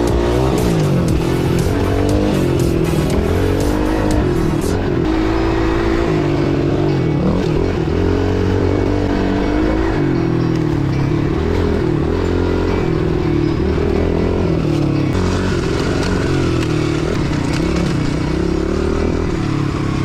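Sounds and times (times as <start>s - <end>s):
sharp ticks and clicks: 0.0s - 6.4s, 7.1s - 20.0s
pit bike engine revving: 0.0s - 20.0s.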